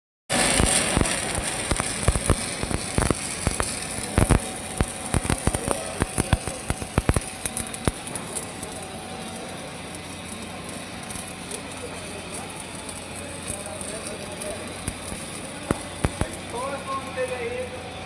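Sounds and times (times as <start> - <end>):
arc welding hiss and crackle: 0.3 - 18.0.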